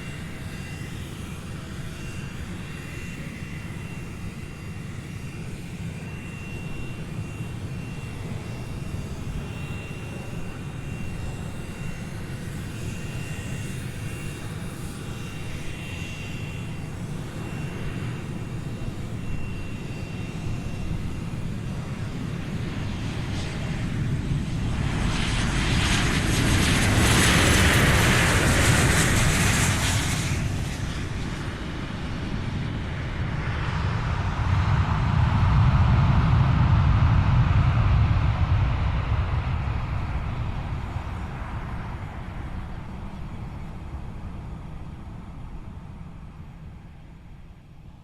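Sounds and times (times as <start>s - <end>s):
airplane taking off: 0.0s - 48.0s.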